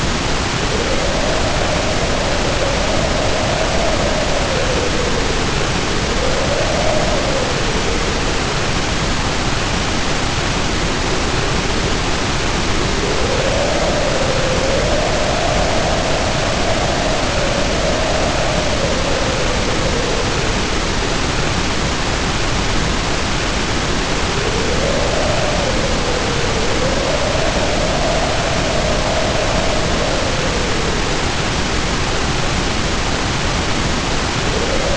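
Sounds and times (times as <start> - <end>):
heavy rain pouring: 0.0 - 34.9
wind howling: 0.0 - 34.9.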